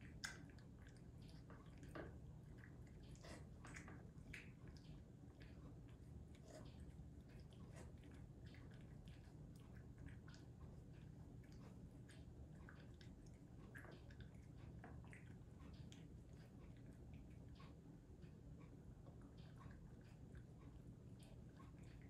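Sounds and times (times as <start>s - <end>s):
cat chewing: 0.0s - 22.0s.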